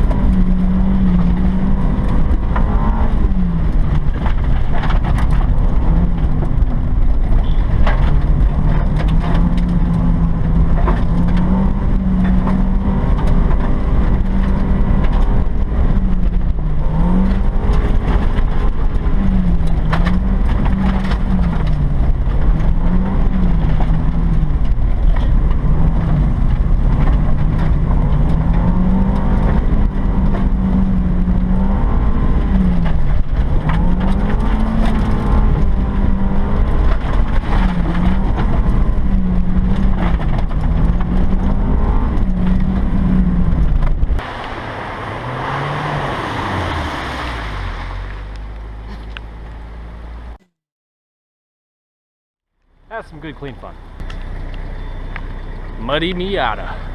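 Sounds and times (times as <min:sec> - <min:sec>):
car engine revving: 0:00.0 - 0:50.5.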